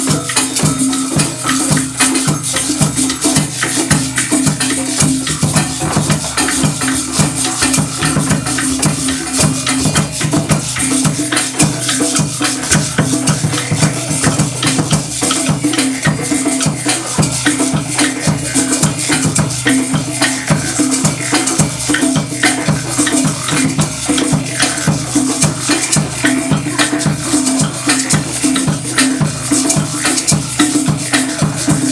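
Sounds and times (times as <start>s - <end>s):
drum ensemble playing: 0.0s - 31.9s
rattling shakers: 0.0s - 31.9s.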